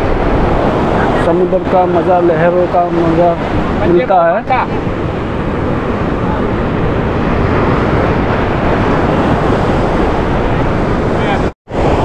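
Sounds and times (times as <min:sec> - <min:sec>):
surf breaking on a beach: 0:00.0 - 0:12.0
wind buffeting the microphone: 0:00.0 - 0:12.0.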